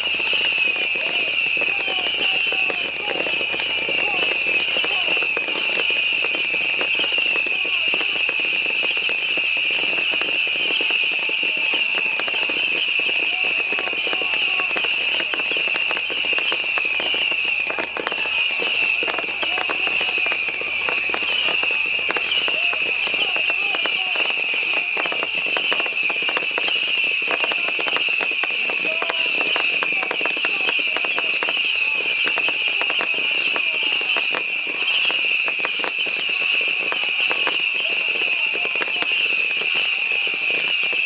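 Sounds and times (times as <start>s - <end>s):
fireworks popping and banging: 0.0s - 41.0s
high shrill fireworks whine: 0.0s - 41.0s.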